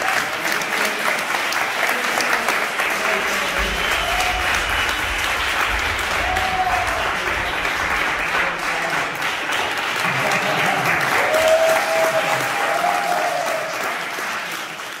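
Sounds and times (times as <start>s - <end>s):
people cheering: 0.0s - 15.0s
people clapping: 0.0s - 15.0s.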